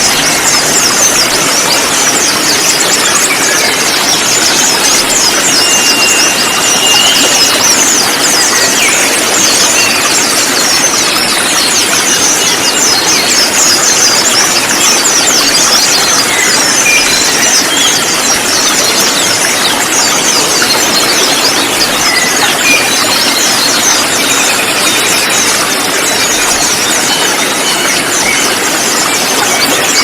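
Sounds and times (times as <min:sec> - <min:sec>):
sunbirds chattering: 0:00.0 - 0:30.0.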